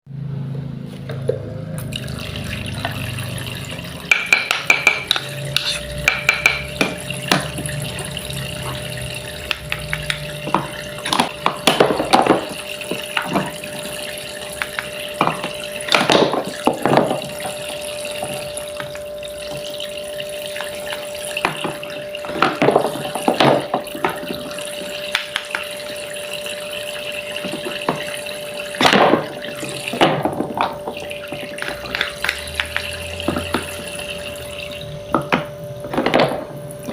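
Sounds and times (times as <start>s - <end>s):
motor hum: 0.1s - 36.9s
toy faucet running water: 1.8s - 36.9s.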